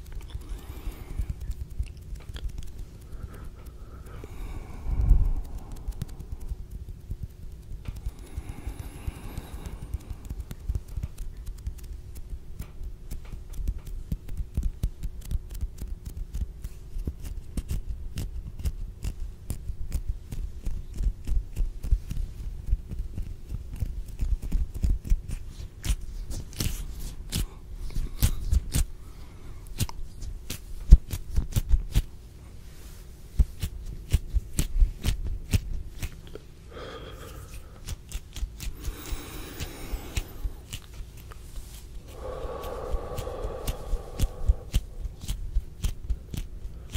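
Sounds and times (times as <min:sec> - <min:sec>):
hands rubbing and tapping microphone: 0:00.0 - 0:03.8, 0:05.0 - 0:28.9, 0:29.7 - 0:36.4, 0:37.3 - 0:46.9.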